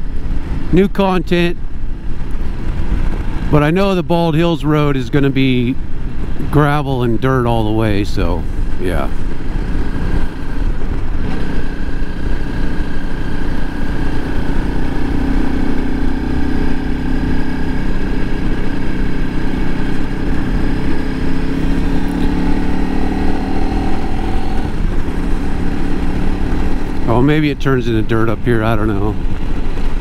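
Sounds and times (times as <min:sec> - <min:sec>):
low wind rumble: 0:00.0 - 0:30.0
motorcycle engine running: 0:00.0 - 0:30.0.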